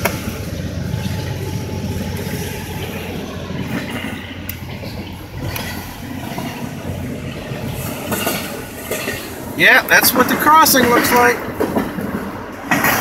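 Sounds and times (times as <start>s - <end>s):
car engine rumble: 0.0s - 13.0s
freight train rolling past: 0.0s - 13.0s.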